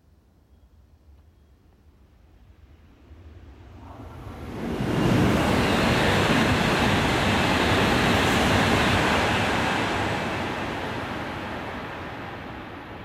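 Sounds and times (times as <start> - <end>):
train passing at speed: 2.3 - 13.0.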